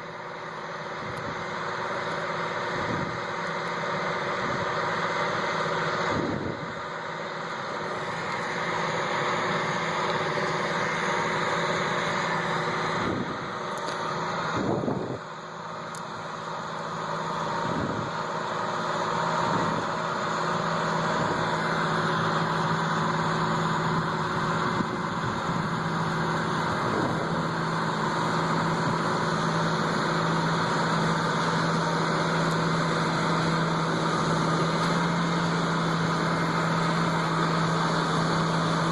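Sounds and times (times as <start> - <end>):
heavy machinery engine drone: 0.0 - 38.9.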